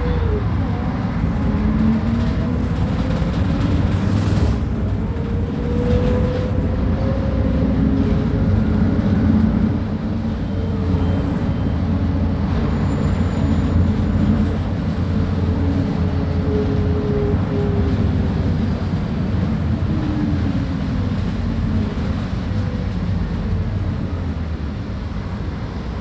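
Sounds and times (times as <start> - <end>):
bus diesel engine rumble: 0.0 - 26.0.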